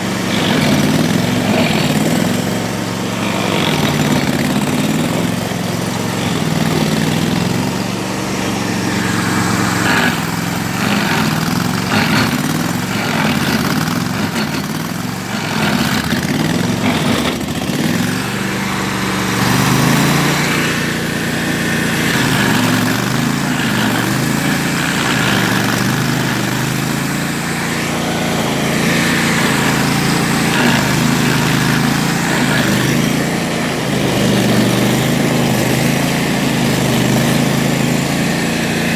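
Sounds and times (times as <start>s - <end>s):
rough grinding noise: 0.0s - 38.9s
stump grinder engine running: 0.0s - 38.9s.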